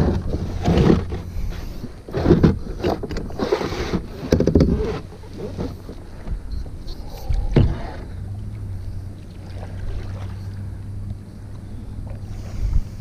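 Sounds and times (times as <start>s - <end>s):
kayak paddle strokes: 0.0s - 13.0s
water against hull: 0.0s - 13.0s.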